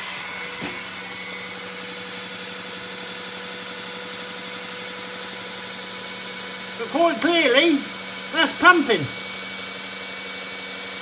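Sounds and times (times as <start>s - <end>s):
cordless drill motor hum: 0.0s - 11.0s.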